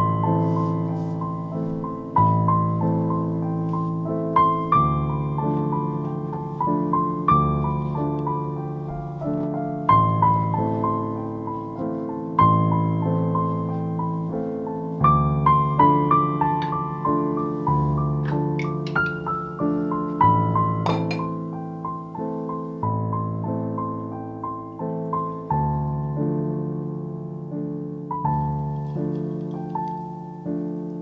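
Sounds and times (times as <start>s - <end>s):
gentle piano music: 0.0s - 31.0s.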